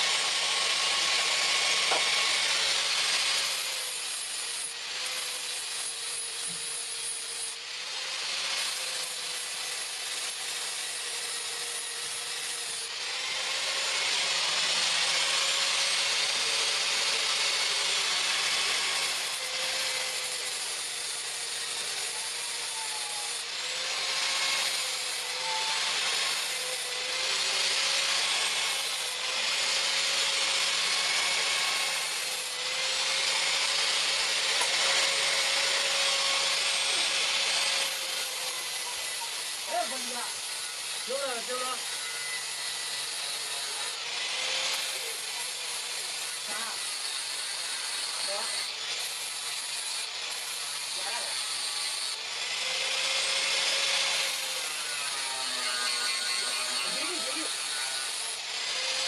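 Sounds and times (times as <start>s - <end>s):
electric grinder grinding steel: 0.0s - 59.0s.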